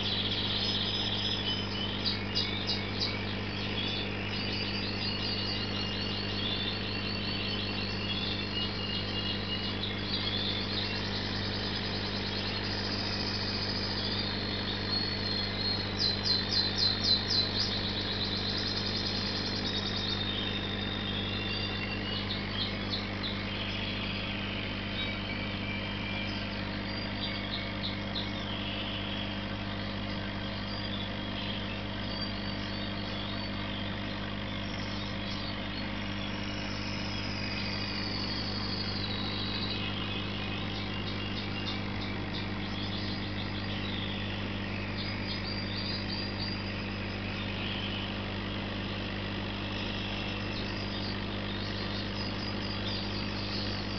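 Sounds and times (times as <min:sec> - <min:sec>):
aquarium air pump humming: 0:00.0 - 0:53.9
high bird chirps: 0:00.0 - 0:53.9.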